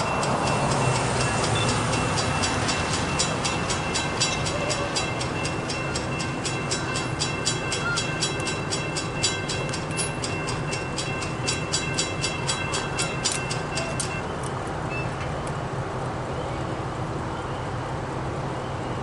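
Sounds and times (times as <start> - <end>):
railroad crossing bell ringing: 0.0 - 15.2.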